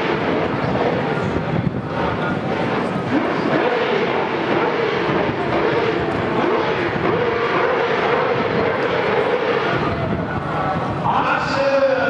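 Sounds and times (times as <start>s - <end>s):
racing engine at high revs: 0.0s - 10.9s.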